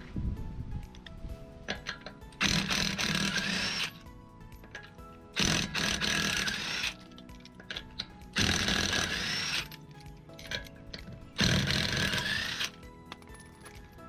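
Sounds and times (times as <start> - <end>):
power wrench spinning bolts: 1.6 - 14.0.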